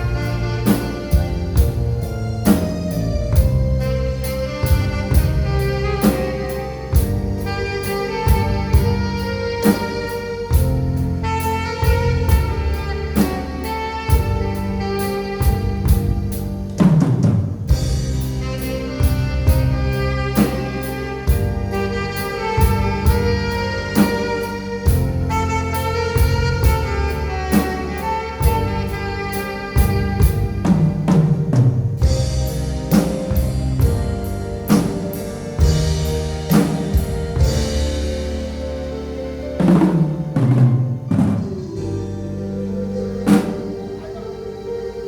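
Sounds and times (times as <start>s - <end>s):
drum kit beat: 0.0s - 42.0s, 43.3s - 44.1s
alto saxophone melody: 0.0s - 45.0s
keyboard accompaniment: 0.0s - 45.0s.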